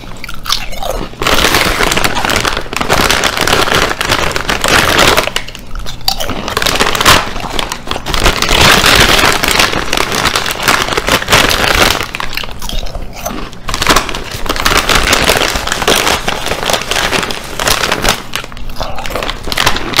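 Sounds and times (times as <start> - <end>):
chips being chewed: 0.0 - 20.0
plastic bag crinkling: 0.0 - 20.0.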